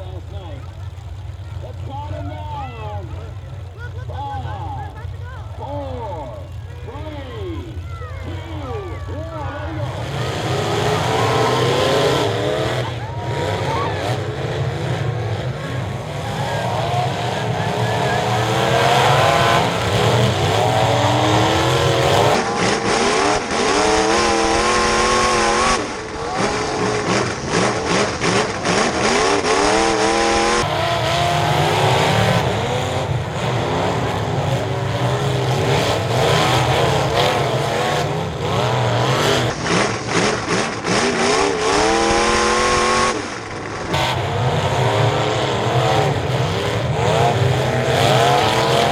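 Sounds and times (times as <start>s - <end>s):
race car engines accelerating: 0.0s - 48.9s.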